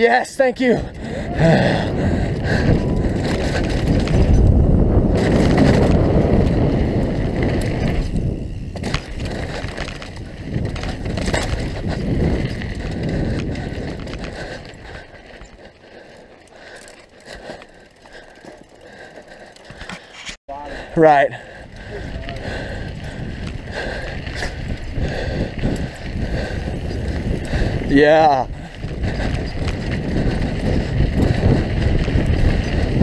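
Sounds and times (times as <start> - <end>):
wind rush on microphone: 0.6 - 33.0
bike clattering over bumps: 0.9 - 20.4, 21.6 - 33.0.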